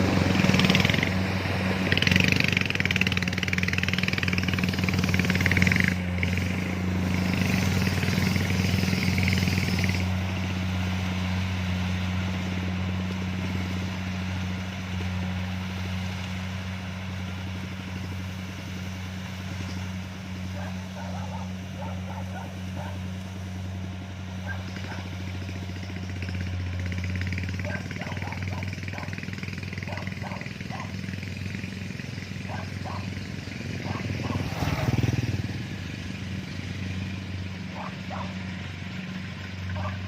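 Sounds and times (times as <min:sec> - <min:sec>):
combine harvester engine drone: 0:00.0 - 0:40.0
loud mechanical noise: 0:00.0 - 0:40.0.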